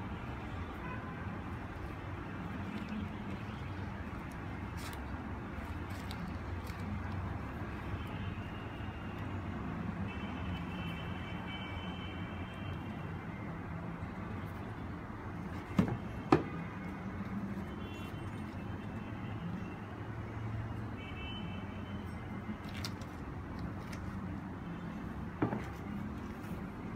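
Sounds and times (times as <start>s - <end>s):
distant road traffic hum: 0.0s - 26.9s.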